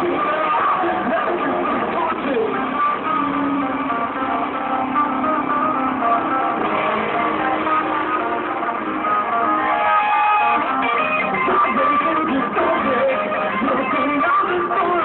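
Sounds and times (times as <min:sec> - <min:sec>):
bass guitar: 0:00.0 - 0:15.0
electric guitars: 0:00.0 - 0:15.0.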